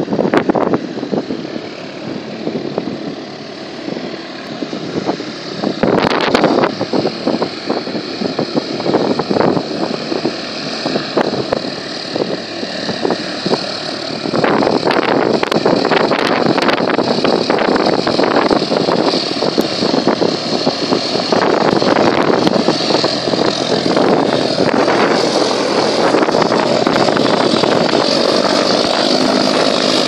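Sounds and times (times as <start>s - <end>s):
light aircraft engine and propeller: 0.0s - 30.0s
wind buffeting microphone: 0.0s - 30.0s.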